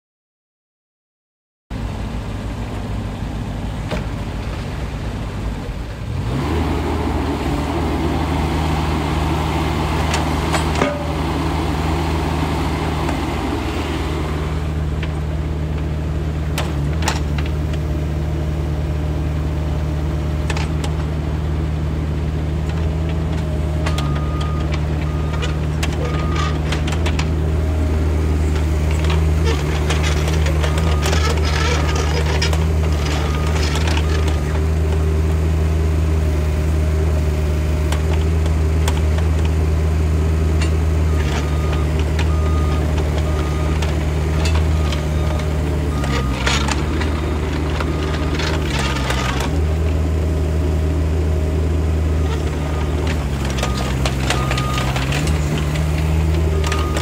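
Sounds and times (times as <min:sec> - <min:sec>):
mini excavator diesel engine running: 0:01.8 - 0:57.0.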